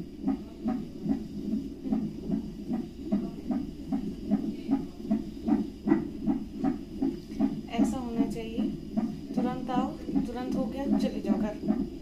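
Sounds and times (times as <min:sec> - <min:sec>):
fetal heartbeat whooshing: 0:00.0 - 0:12.0.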